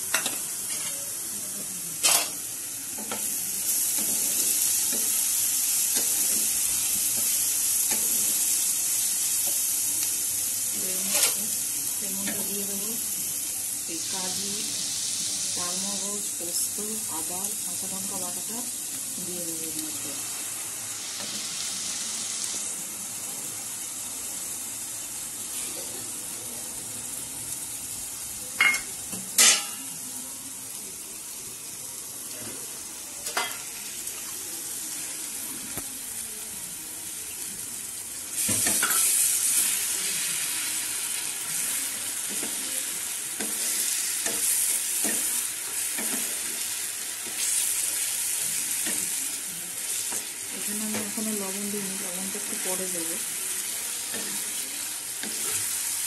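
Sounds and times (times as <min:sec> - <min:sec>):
paste sizzling in hot oil: 0:00.0 - 0:56.0.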